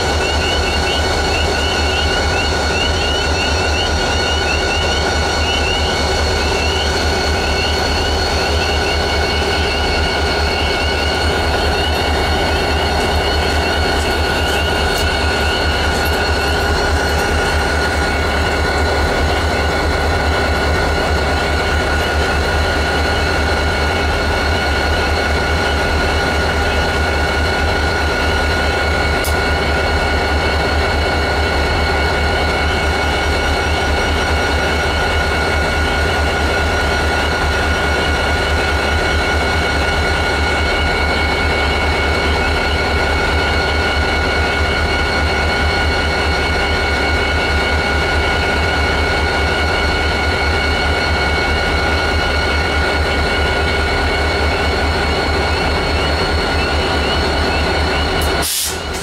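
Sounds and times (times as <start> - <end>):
diesel locomotives idling: 0.0 - 59.0
high whining tones: 0.0 - 59.0.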